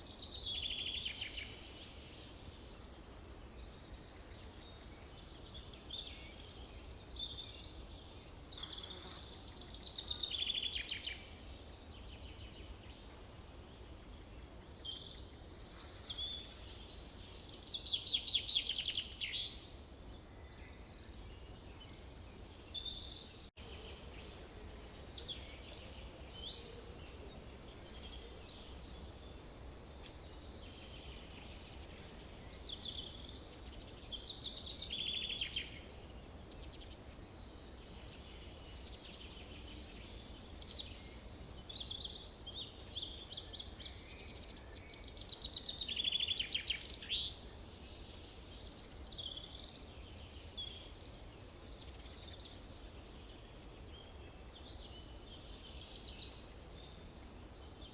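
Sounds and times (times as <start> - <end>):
birds singing and calling: 0.0 - 57.9.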